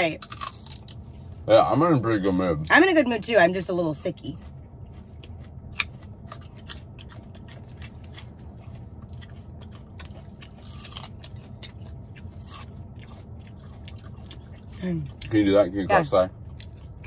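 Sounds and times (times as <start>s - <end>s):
steady low hum: 0.0s - 17.0s
chewing and crunching food: 0.1s - 1.3s, 3.5s - 17.0s.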